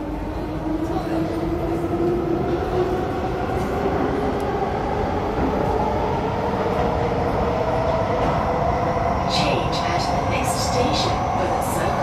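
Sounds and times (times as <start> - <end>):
metro train rumble with motor whine: 0.0 - 12.0.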